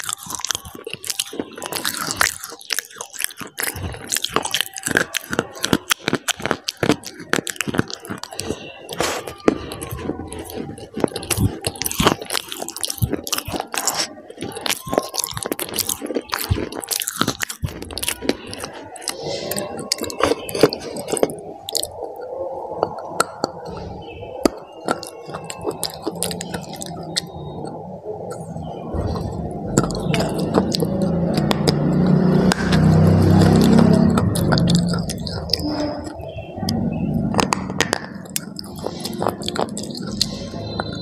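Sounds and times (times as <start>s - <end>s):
biting and chewing crunches: 0.0s - 41.0s.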